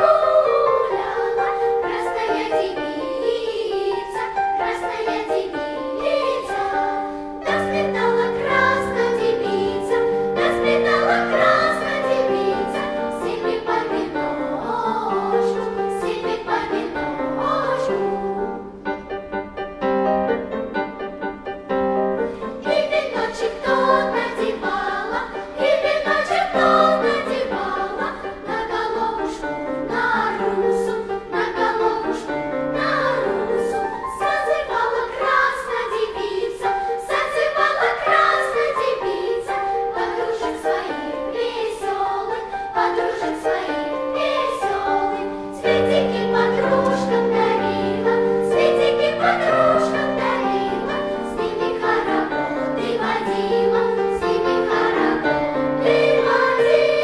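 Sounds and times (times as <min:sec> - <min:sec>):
children's choir singing folk song: 0:00.0 - 0:57.0.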